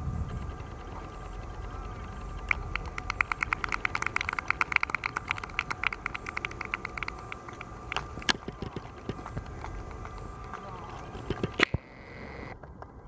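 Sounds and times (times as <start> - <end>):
rapid sharp clicks: 0.1 - 12.9.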